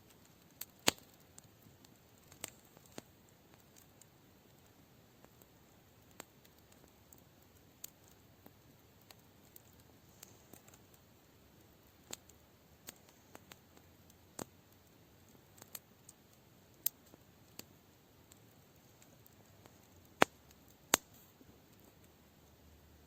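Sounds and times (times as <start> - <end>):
campfire crackling pops: 0.0 - 23.0
faint fire hiss: 0.0 - 23.0.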